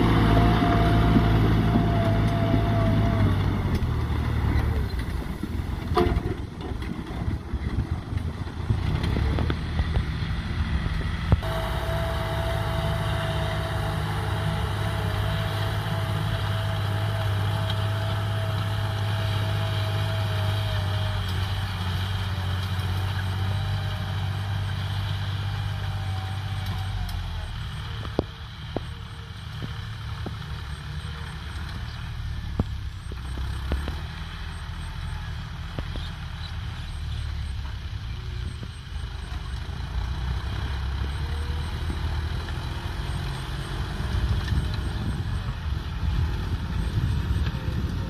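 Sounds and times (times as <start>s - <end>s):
engine knocks: 0.0s - 48.0s
tractor diesel engine under load: 0.0s - 48.0s.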